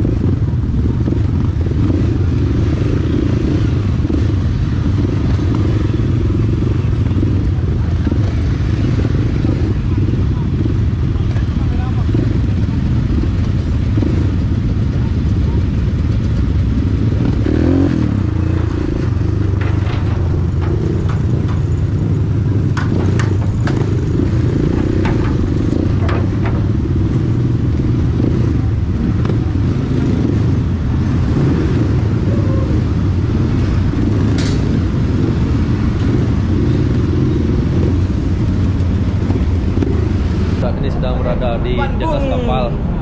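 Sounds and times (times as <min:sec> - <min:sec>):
motorcycle engine rumble: 0:00.0 - 0:43.0.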